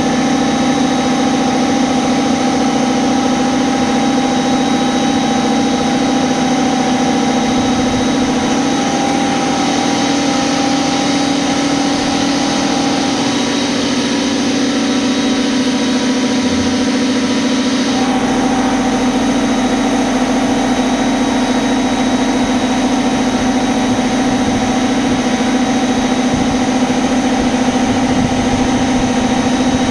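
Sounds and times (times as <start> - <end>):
milling machine hum and whine: 0.0 - 29.9.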